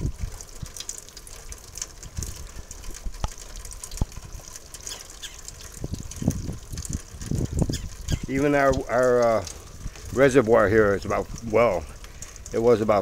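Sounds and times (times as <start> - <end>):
rain falling: 0.0 - 13.0
wind rumbling on microphone: 0.0 - 13.0.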